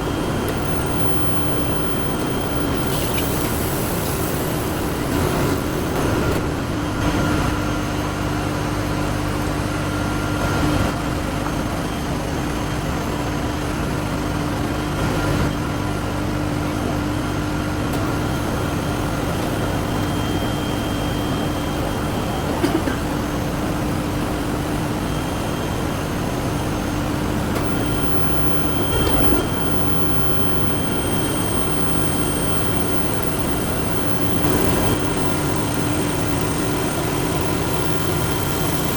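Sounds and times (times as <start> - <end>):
machinery hum and whir: 0.0 - 38.9.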